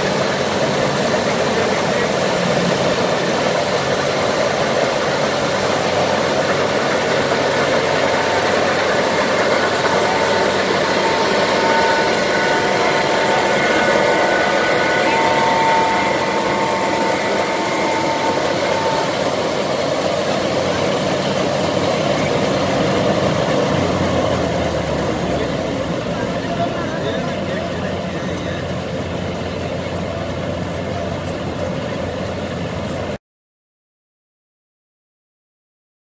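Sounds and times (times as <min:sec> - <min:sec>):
combine harvester engines droning: 0:00.0 - 0:33.2
high steady whine: 0:00.0 - 0:33.2.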